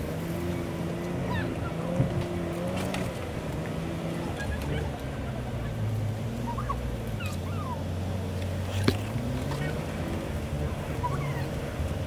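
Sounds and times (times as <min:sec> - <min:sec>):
truck engine at low revs: 0:00.0 - 0:12.0.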